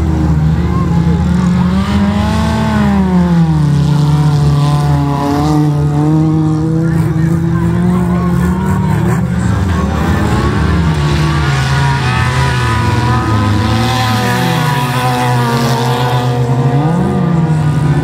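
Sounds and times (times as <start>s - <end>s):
racing car engines revving hard: 0.0s - 18.0s.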